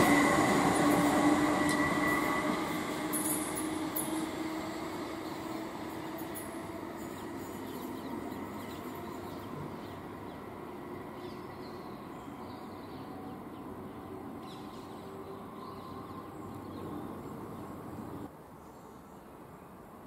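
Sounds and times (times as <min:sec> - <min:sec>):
train rumble: 0:00.0 - 0:18.3.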